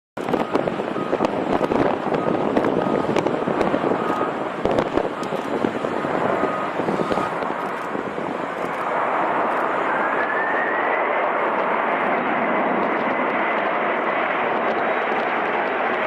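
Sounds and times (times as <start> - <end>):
jet engines rushing: 0.2 - 16.0
thin engine whine: 0.2 - 16.0.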